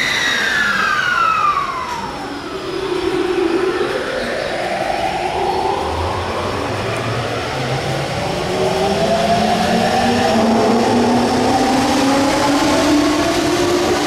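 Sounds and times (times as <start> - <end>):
electric train inverter whine: 0.0 - 14.0.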